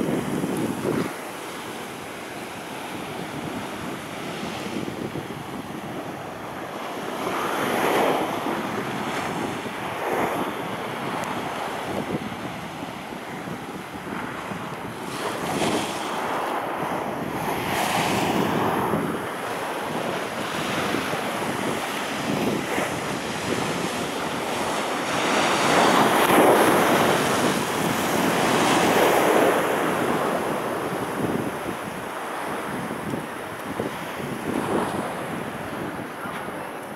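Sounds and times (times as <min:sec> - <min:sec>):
surf washing up seawall: 0:00.0 - 0:36.9
wind buffeting microphone: 0:00.0 - 0:36.9.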